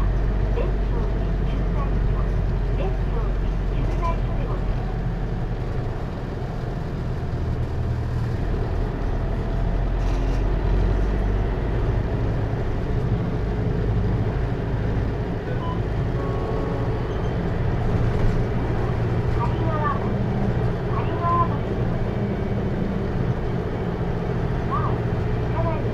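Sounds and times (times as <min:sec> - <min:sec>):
diesel engine running: 0:00.0 - 0:25.9
road and tyre noise: 0:00.0 - 0:25.9.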